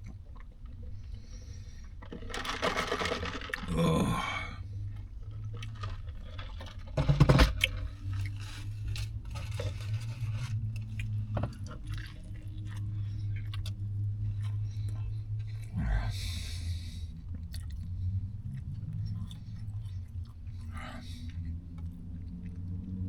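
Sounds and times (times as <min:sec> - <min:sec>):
chewing and crunching sandwich: 0:00.0 - 0:23.0
steady low hum: 0:03.6 - 0:23.0.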